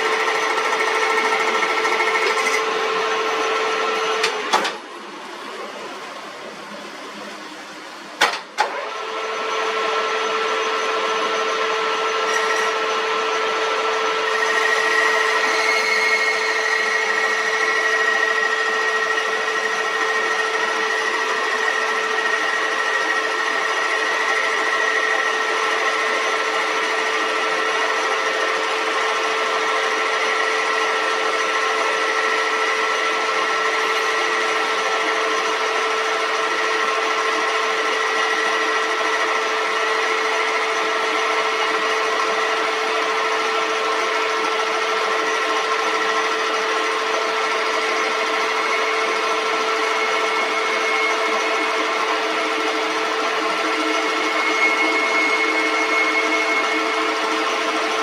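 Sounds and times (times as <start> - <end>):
metal lathe humming and whining: 0.0 - 58.0.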